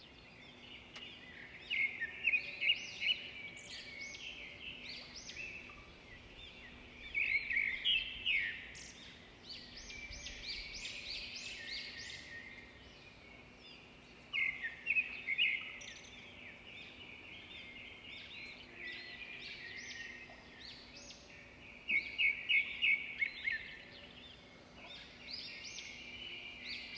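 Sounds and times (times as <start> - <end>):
small birds chirping and singing: 0.0 - 26.9.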